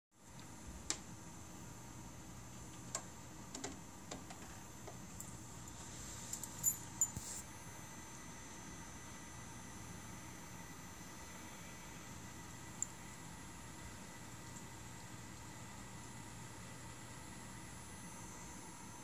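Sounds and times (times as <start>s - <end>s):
terminal humming with high tones: 0.2s - 19.0s.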